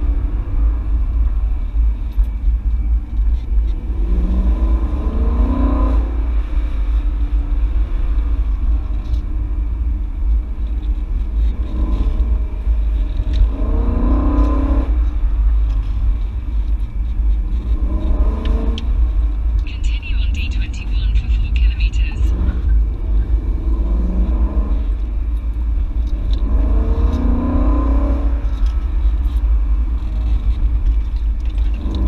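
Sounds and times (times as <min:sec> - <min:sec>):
car engine accelerating: 0:00.0 - 0:32.0
low road rumble: 0:00.0 - 0:32.0.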